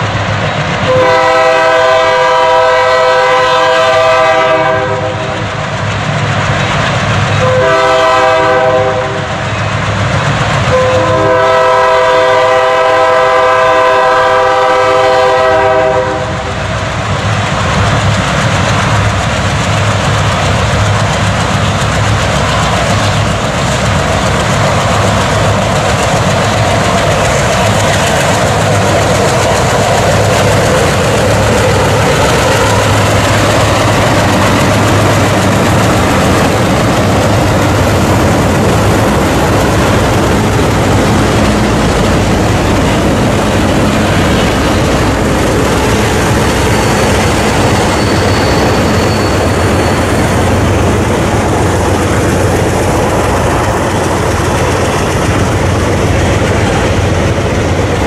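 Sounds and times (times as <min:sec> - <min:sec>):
diesel locomotives working hard: 0:00.0 - 0:58.0
freight cars rolling on rails: 0:00.0 - 0:58.0.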